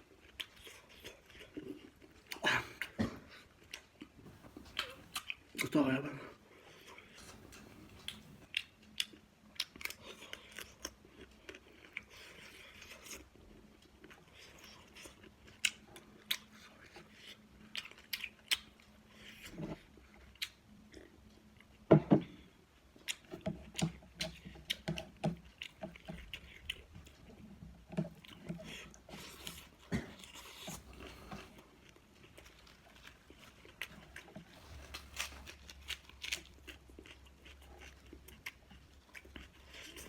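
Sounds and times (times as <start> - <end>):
person chewing with wet clicks: 0.0 - 5.8, 6.8 - 40.0.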